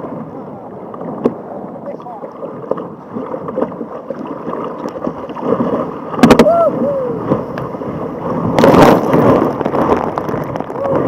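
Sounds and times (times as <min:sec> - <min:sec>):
rush of water: 0:00.0 - 0:11.0
water sloshing and splashing: 0:00.0 - 0:11.0.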